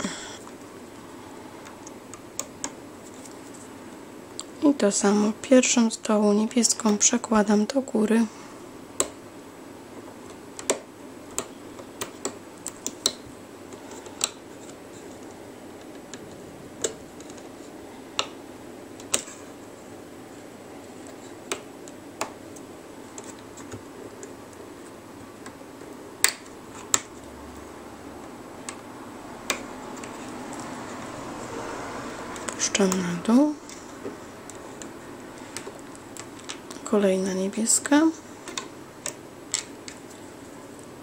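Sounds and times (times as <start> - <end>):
steady low hiss: 0.0 - 41.0.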